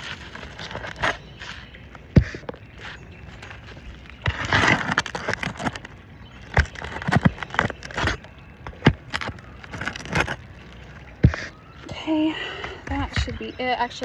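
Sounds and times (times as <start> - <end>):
tool scraping roof shingle: 0.0 - 13.5.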